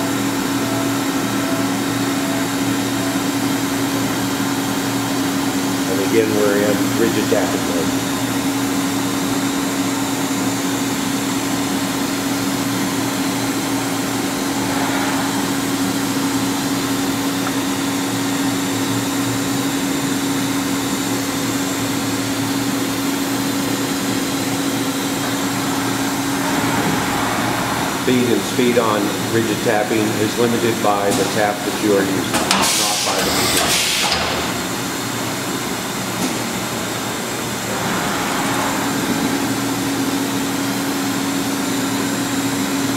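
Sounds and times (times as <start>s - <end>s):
machine hum: 0.0s - 30.6s, 34.2s - 42.9s
mid-pitched machine whine: 0.0s - 42.9s.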